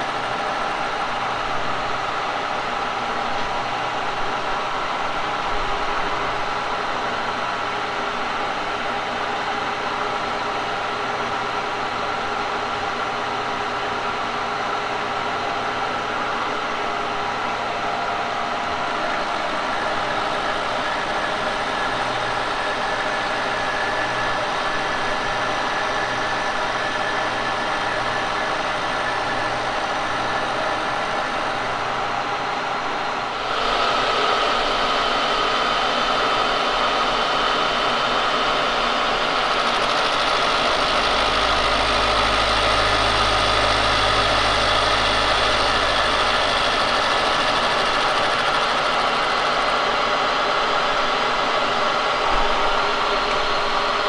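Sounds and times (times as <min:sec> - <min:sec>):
milling machine hum and whine: 0:00.0 - 0:54.0.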